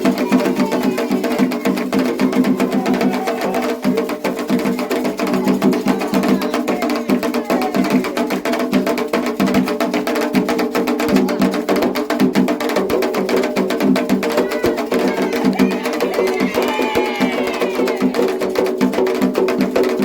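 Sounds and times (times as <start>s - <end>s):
hand drums fast rhythm: 0.0s - 20.0s.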